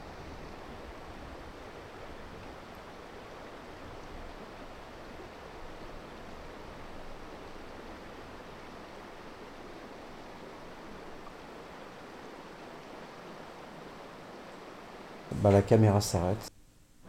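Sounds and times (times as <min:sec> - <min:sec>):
river water rushing: 0:00.0 - 0:15.6.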